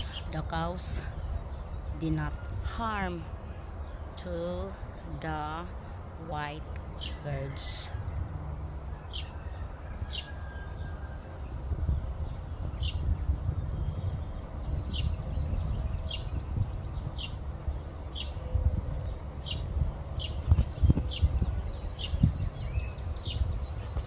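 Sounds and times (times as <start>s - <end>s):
bird chirping: 0.0s - 24.0s
wind rumble on microphone: 0.0s - 24.0s.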